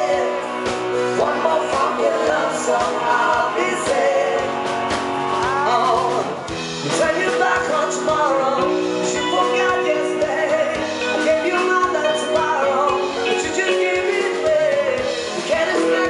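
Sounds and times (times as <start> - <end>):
pop song vocals: 0.0 - 16.0
steady drum beat: 0.0 - 16.0.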